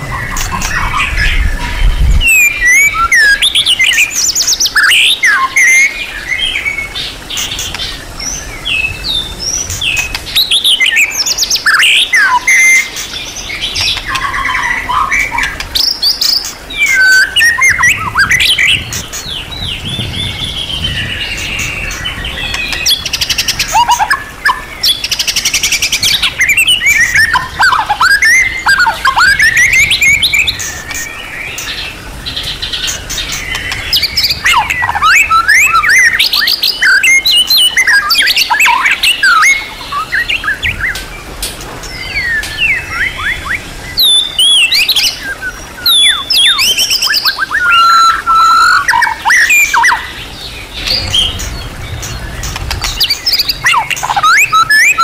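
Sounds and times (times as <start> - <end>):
songbird singing whistles and trills: 0.0 - 41.2, 41.8 - 55.0.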